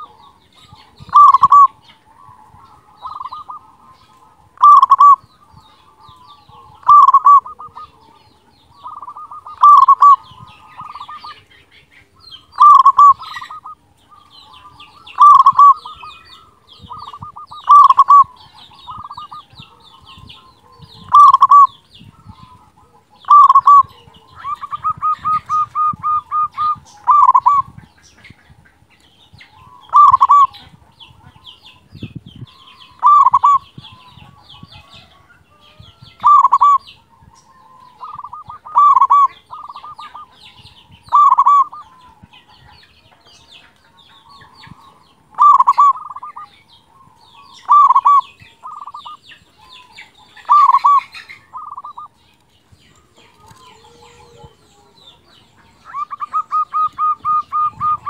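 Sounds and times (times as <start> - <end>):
dove cooing: 0.0 - 11.5, 12.1 - 27.8, 29.4 - 31.5, 32.6 - 35.3, 36.1 - 42.8, 43.6 - 52.2, 53.0 - 58.0
small birds chirping: 0.0 - 58.0.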